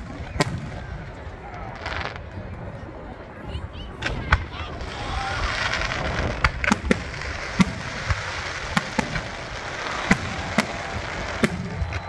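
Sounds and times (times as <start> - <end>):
fireworks bangs: 0.0 - 2.5, 4.0 - 12.0.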